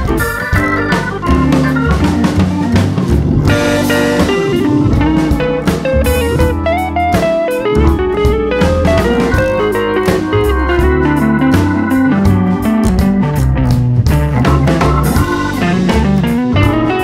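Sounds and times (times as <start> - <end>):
upbeat guitar and drums music: 0.0 - 17.0.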